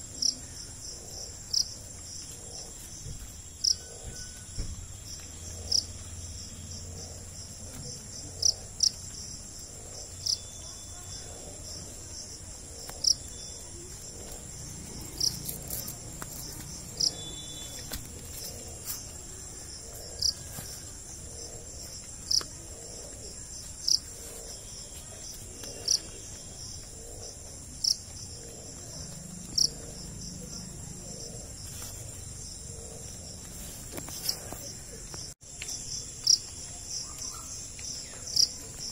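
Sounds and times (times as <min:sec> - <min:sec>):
crickets trilling and chirping: 0:00.0 - 0:38.9.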